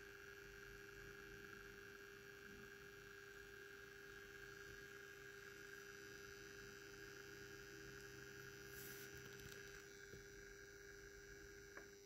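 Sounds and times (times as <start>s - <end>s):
model locomotive electric hum: 0.0s - 12.0s.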